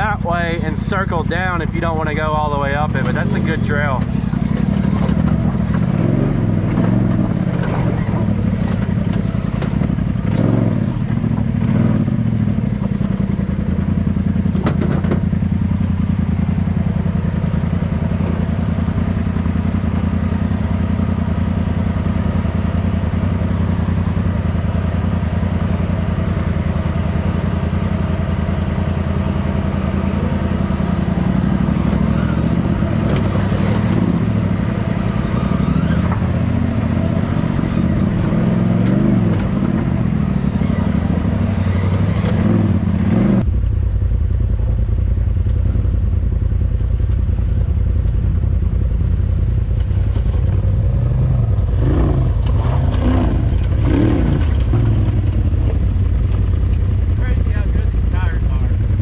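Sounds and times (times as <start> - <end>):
off-road vehicle engine running: 0.0 - 59.0.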